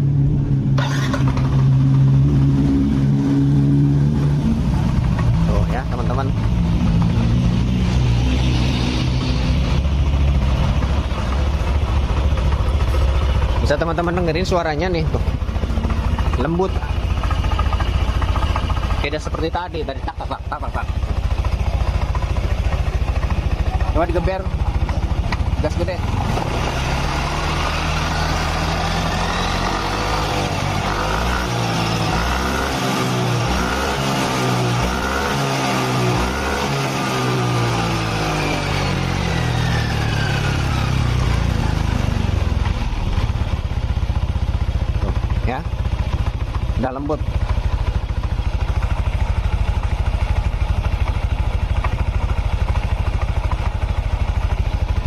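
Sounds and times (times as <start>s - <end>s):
scooter engine revving: 0.6s - 55.0s.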